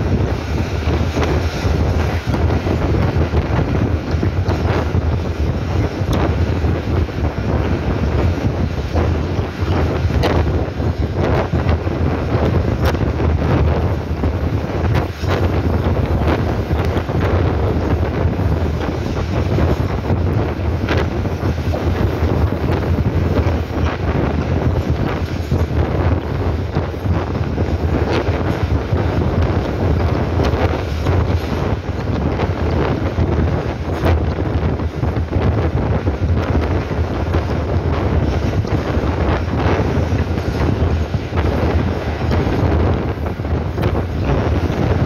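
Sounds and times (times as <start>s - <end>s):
train running rumble: 0.0s - 45.0s
wind buffeting microphone: 0.0s - 45.0s.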